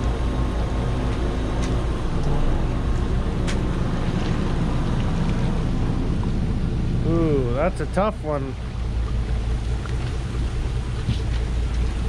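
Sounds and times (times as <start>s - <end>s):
boat engine running: 0.0s - 12.0s
sea noise: 0.0s - 12.0s
wind: 0.0s - 12.0s.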